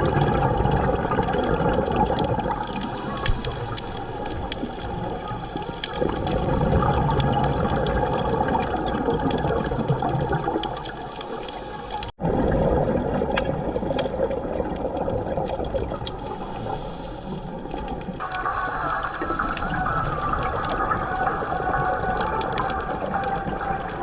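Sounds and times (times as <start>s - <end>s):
scuba bubbles rushing underwater: 0.0s - 24.0s
faint crackle of fine clicks: 0.2s - 12.1s, 13.2s - 24.0s.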